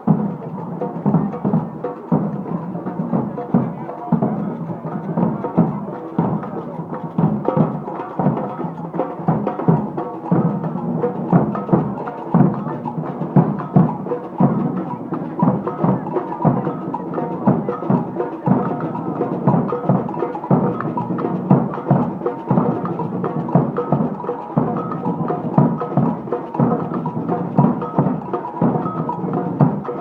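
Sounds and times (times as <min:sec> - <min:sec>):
marching band playing: 0:00.0 - 0:30.0
steady drum beat: 0:00.0 - 0:30.0.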